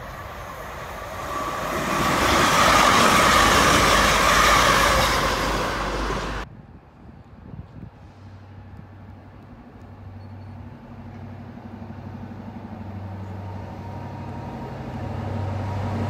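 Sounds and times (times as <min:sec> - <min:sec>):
diesel train passing at speed: 0:00.0 - 0:16.0.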